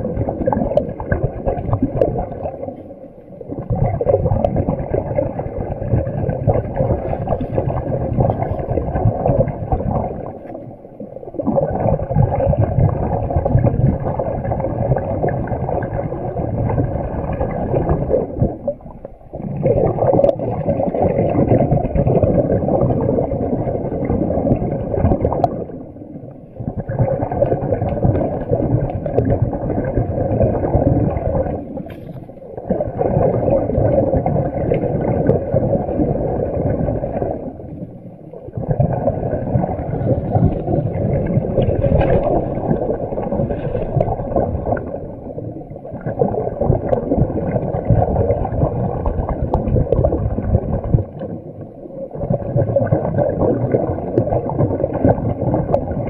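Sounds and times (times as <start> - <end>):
underwater air bubbling: 0.0 - 56.0.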